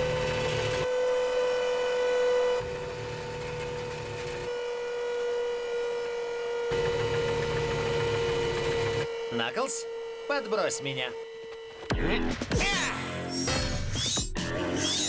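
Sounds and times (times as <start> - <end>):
siren-like electronic hum: 0.0 - 12.5.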